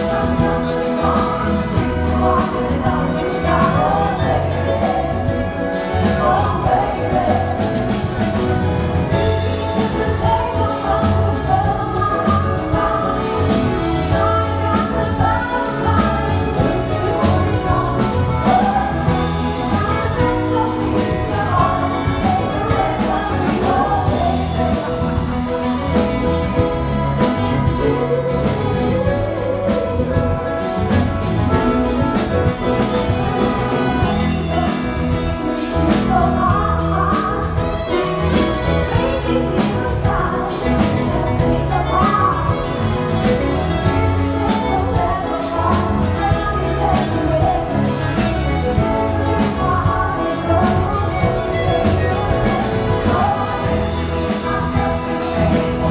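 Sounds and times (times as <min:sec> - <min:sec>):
big band playing pop song: 0:00.0 - 0:55.9.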